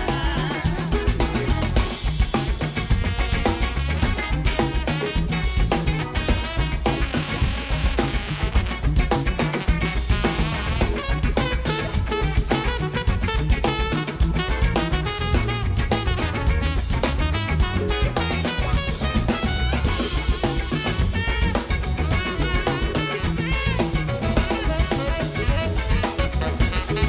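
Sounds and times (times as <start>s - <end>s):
drum kit and bass groove: 0.0s - 27.0s.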